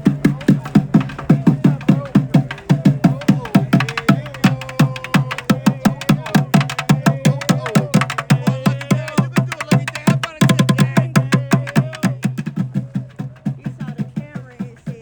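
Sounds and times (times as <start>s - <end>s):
street drummers playing: 0.0s - 15.0s.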